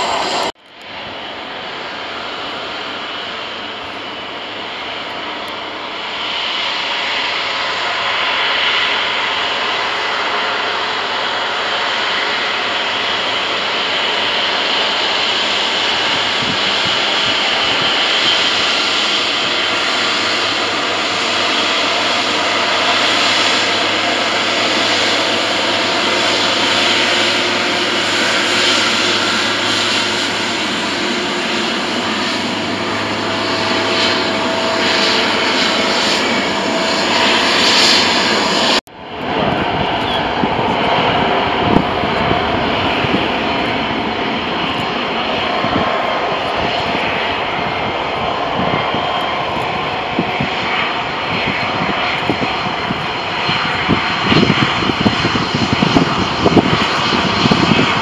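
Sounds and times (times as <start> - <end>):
jet airliner taxiing at low power: 0.0 - 58.0
jet engines taxiing: 0.0 - 58.0.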